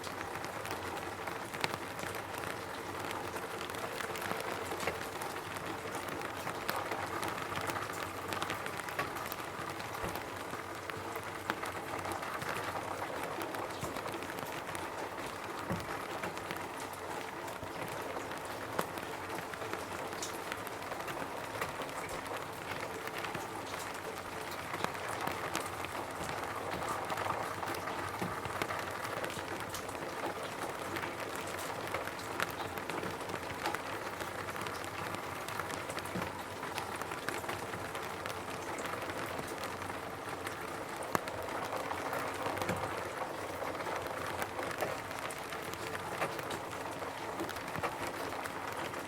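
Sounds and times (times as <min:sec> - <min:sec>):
rain on a roof: 0:00.0 - 0:49.0.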